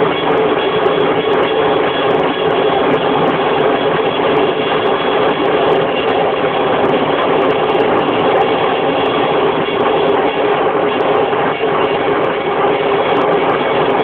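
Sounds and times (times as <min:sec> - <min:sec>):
helicopter hovering overhead: 0:00.0 - 0:14.0.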